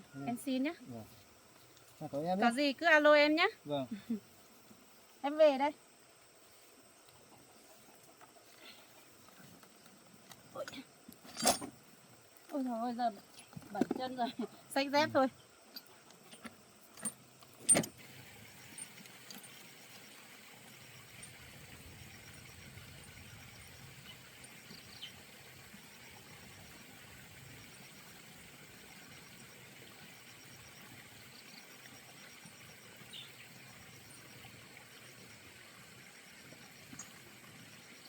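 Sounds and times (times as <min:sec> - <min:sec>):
low hiss: 0:00.0 - 0:38.0.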